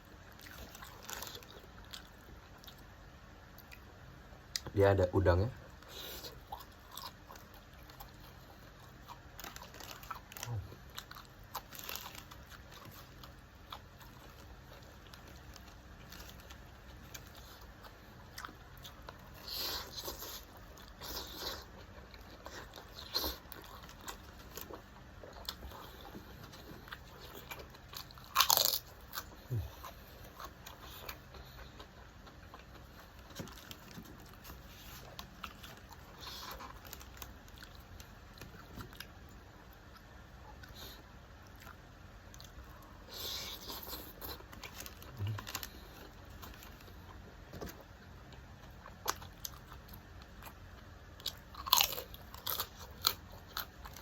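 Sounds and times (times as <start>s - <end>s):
chewing and crunching: 0.0s - 54.0s.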